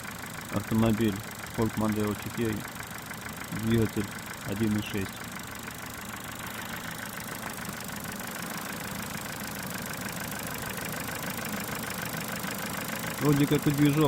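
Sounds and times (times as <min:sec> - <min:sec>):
car engine idling: 0:00.0 - 0:14.0
rapid ticking engine clatter: 0:00.0 - 0:14.0.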